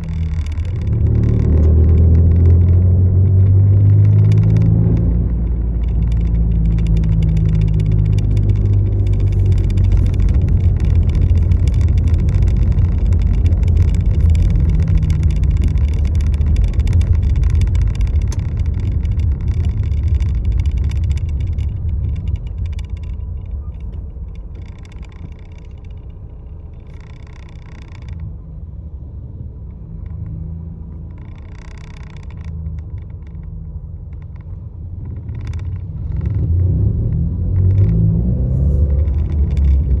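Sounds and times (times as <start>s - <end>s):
faint ticks: 0.0s - 28.3s, 29.6s - 40.0s
road vehicle rumble: 0.0s - 40.0s.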